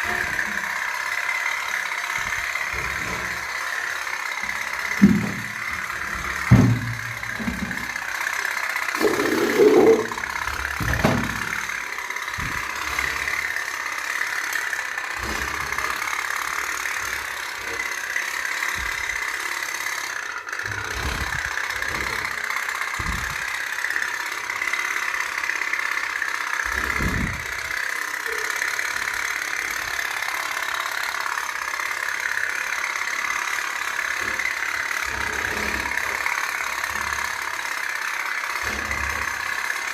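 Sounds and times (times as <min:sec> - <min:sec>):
toy steam boat putt-putt rattle: 0:00.0 - 0:39.9.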